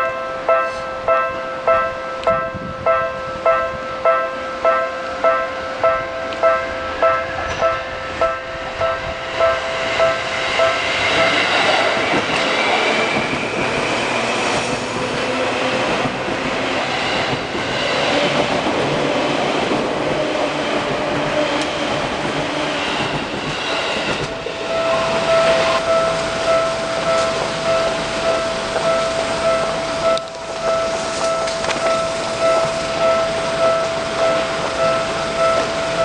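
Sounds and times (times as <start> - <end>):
level crossing warning bell: 0.0 - 22.4, 24.0 - 36.0
electric train running past: 0.0 - 36.0.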